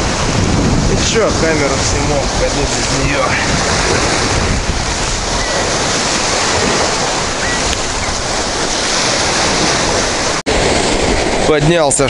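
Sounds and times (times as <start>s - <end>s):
waves breaking: 0.0s - 12.0s
wind noise on microphone: 0.0s - 12.0s.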